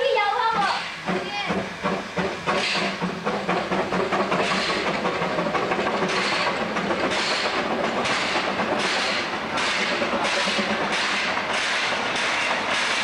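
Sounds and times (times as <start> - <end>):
steam hiss and running gear: 0.0 - 13.0
steam locomotive exhaust chuffing: 0.0 - 13.0.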